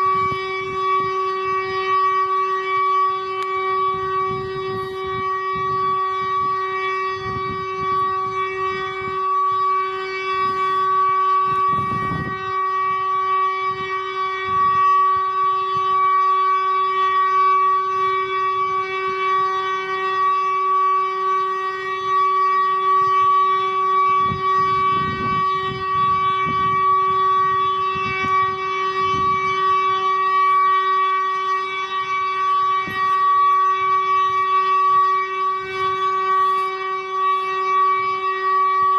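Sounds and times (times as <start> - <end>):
siren steady tone: 0.0 - 38.9.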